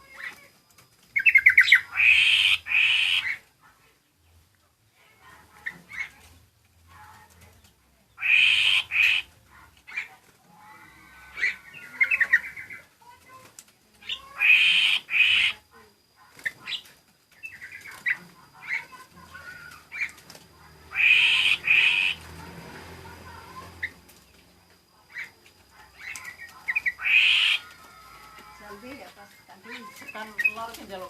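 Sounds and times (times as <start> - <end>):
soft bird chirps and trills: 0.0 - 4.4, 5.0 - 31.0.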